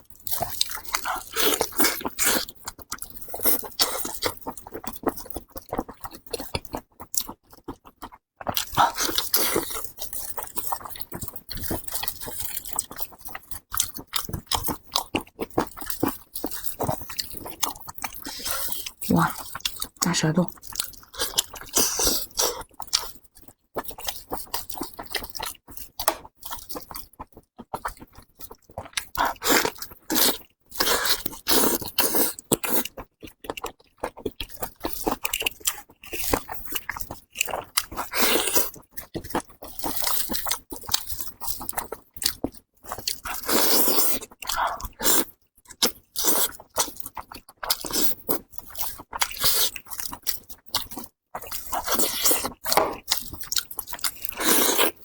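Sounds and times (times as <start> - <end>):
close-miked chewing and biting: 0.2 - 55.0.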